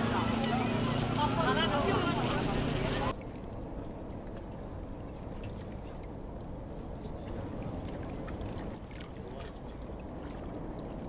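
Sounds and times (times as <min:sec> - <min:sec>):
small splashes: 0:00.0 - 0:11.0
water lapping against rocks: 0:00.0 - 0:11.0.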